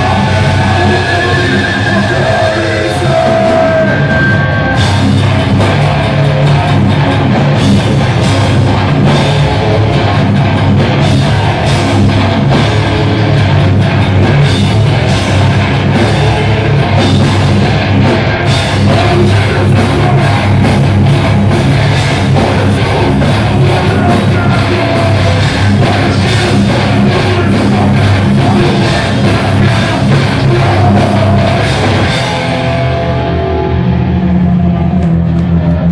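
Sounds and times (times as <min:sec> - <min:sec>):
bass guitar: 0:00.0 - 0:35.9
drum kit: 0:00.0 - 0:35.9
electric guitars: 0:00.0 - 0:35.9.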